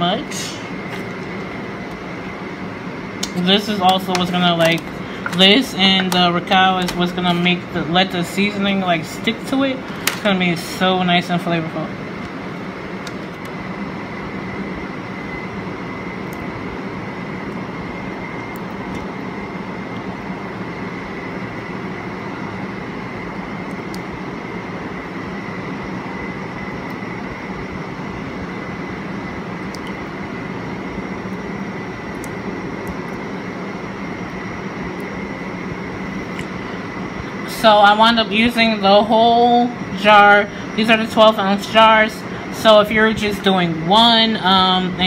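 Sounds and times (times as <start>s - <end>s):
fan motor whirring: 0.0s - 45.0s.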